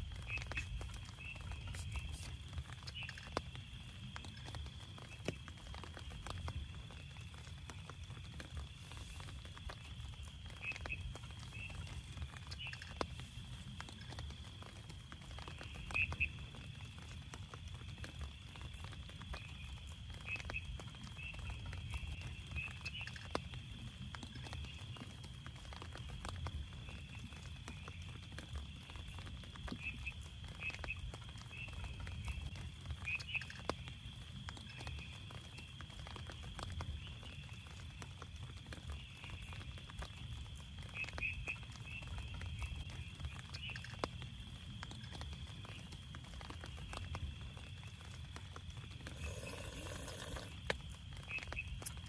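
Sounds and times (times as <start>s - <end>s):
rain pattering on tent fabric: 0.0s - 52.0s.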